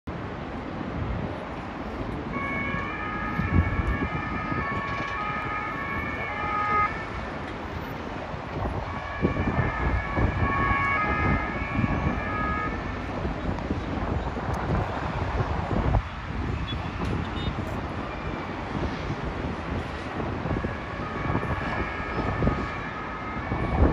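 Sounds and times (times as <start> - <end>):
city traffic rumble: 0.1 - 23.9
emergency vehicle siren: 0.6 - 23.9.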